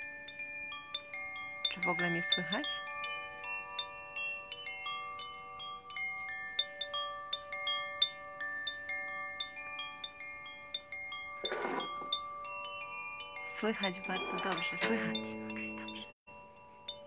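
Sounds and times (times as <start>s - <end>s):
bell-like ringing notes: 0.0s - 17.0s.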